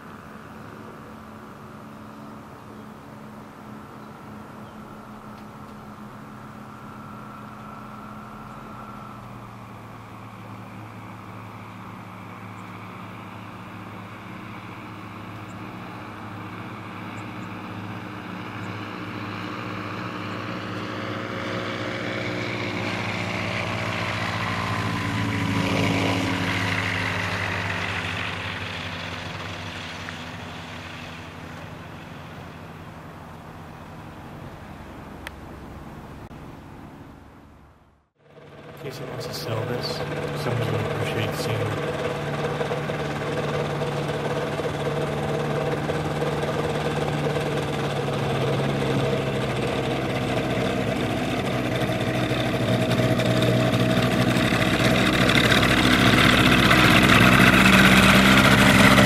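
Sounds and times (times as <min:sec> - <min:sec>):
light plane engine and propeller: 0:00.0 - 0:59.0.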